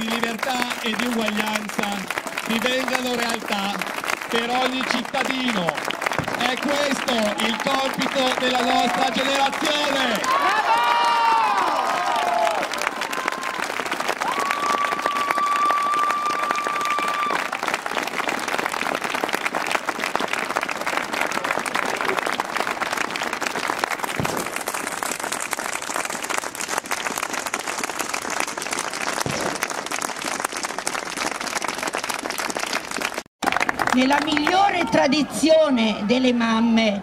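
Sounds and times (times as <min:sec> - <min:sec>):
crowd applauding: 0:00.0 - 0:35.4.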